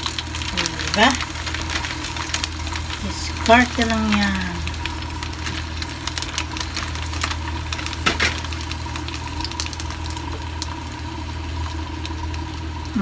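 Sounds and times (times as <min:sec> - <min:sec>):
fish sizzling in hot oil: 0:00.0 - 0:13.0
low hum: 0:00.0 - 0:13.0
oil popping: 0:00.0 - 0:13.0.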